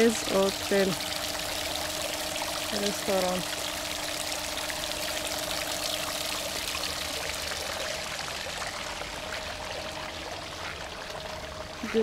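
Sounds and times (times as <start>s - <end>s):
faint steady hum: 0.0s - 12.0s
running water rushing: 0.0s - 12.0s.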